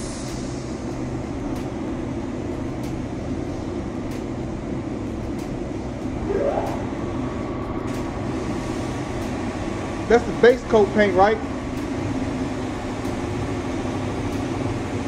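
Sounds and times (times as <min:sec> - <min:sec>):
ventilation running: 0:00.0 - 0:15.0.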